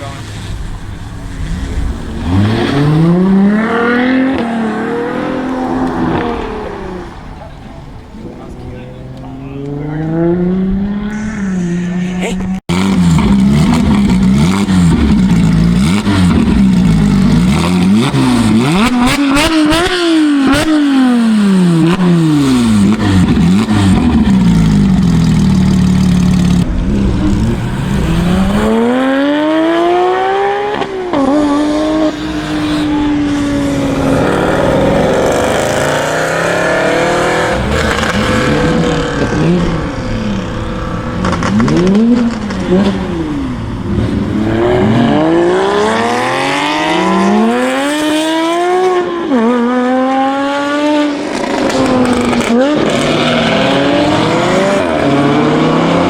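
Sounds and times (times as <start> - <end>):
sports car engines revving: 0.0 - 56.0.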